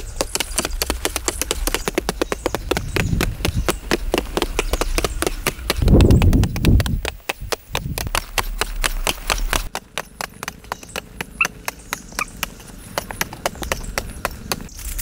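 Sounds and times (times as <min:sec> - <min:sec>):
hoes chopping into dry earth: 0:00.0 - 0:15.0.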